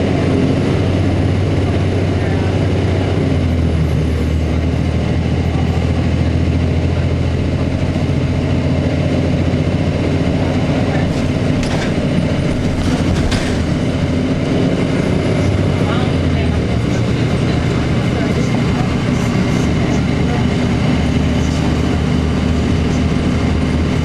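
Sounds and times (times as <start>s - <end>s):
bus diesel engine low drone: 0.0s - 24.0s.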